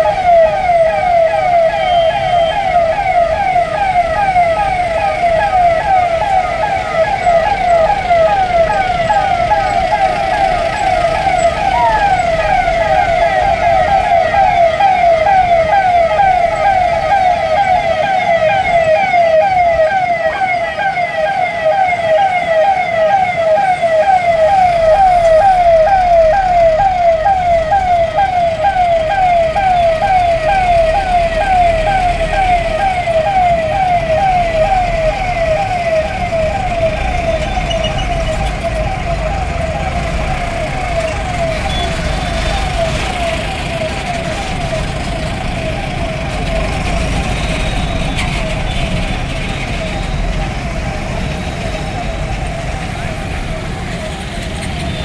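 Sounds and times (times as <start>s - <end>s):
low rumble of engines: 0.0s - 18.0s, 23.5s - 55.0s
police siren yelping: 0.0s - 55.0s.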